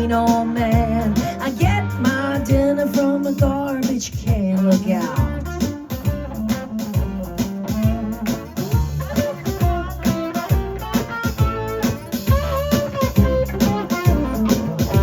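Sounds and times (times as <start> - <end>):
guitar lines: 0.0 - 15.0
rockabilly band playing live: 0.0 - 15.0.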